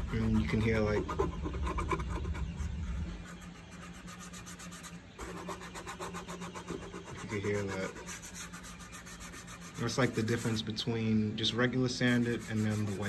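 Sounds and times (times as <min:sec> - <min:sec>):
scratchy rubbing on plastic surface: 0:00.0 - 0:10.8, 0:11.9 - 0:13.0.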